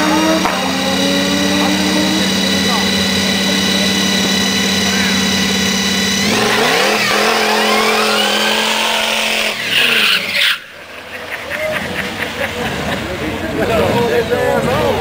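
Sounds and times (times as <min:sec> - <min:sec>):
hot rod engine revving: 0:00.0 - 0:15.0
tire screech: 0:00.0 - 0:15.0.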